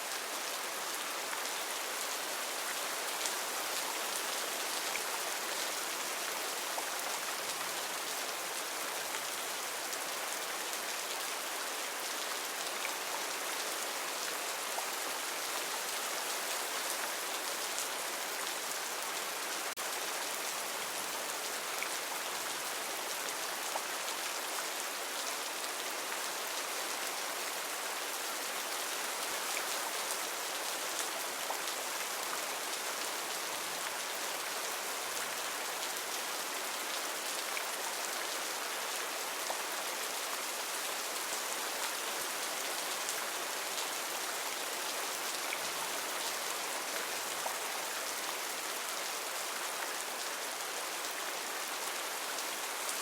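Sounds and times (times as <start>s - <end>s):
heavy rain on foliage: 0.0s - 53.0s.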